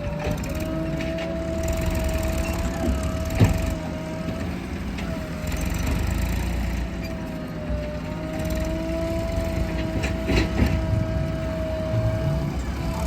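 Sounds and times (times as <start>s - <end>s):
constant engine whine: 0.0s - 13.0s
diesel engine running: 0.0s - 13.0s.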